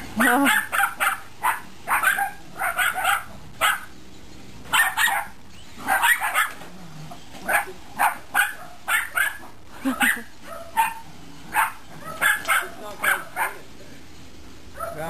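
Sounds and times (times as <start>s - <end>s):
small dog barking: 0.2s - 3.9s, 4.7s - 6.6s, 7.4s - 13.7s, 14.8s - 15.0s.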